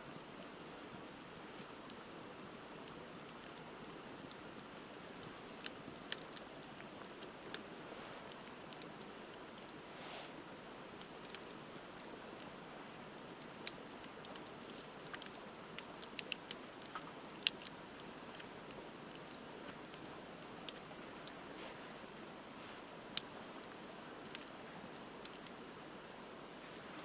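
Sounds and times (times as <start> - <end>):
campfire crackling and popping: 0.1 - 27.0.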